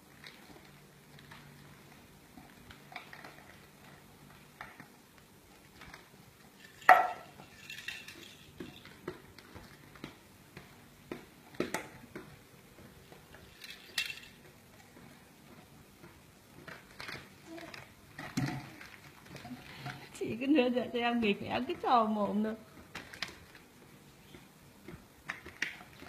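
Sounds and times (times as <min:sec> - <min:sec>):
plastic toys clattering on mat: 0:00.1 - 0:12.4, 0:13.1 - 0:15.2, 0:16.6 - 0:20.2, 0:22.7 - 0:26.0.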